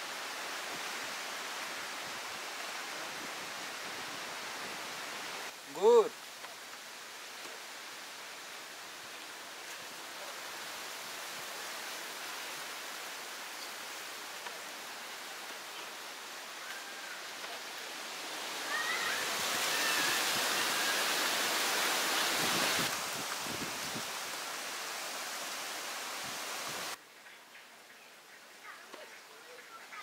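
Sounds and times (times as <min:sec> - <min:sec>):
rushing hiss of outdoor noise: 0:00.0 - 0:30.0.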